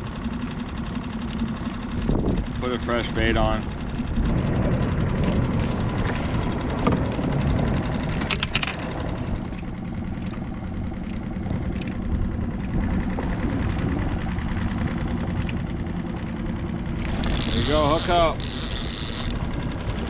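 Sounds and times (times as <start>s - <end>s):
outboard motor idling: 0.0s - 20.0s.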